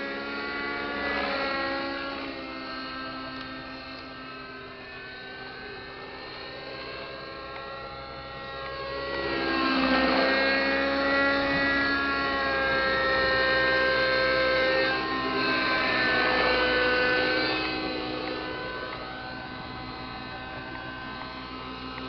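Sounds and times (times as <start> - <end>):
model helicopter rotor whine: 0.0 - 22.0.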